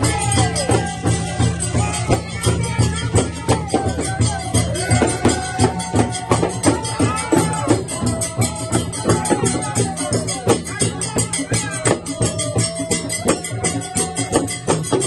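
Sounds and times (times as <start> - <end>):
fast dense drumming: 0.0 - 15.0.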